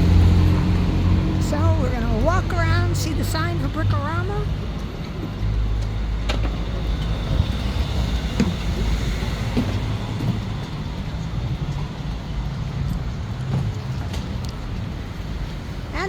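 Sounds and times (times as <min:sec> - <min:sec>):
low rumble of passing vehicles: 0:00.0 - 0:16.0.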